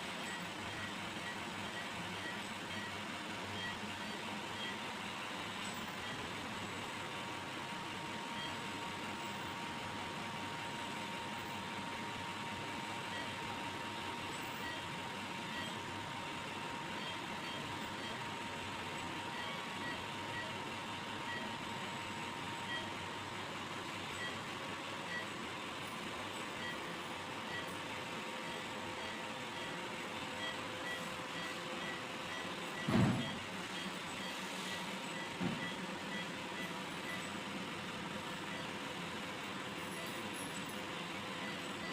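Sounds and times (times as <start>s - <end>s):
patient monitor beeps: 0.2s - 41.9s.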